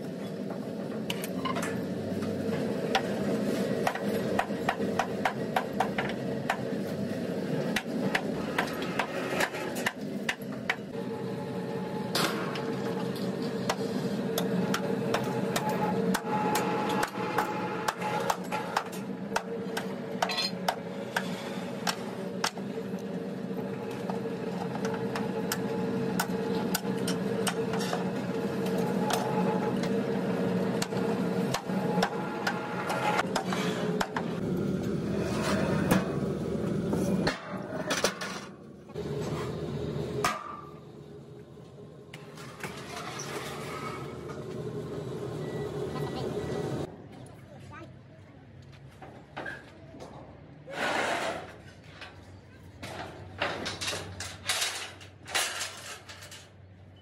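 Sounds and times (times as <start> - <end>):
low machine hum: 0.0 - 47.3.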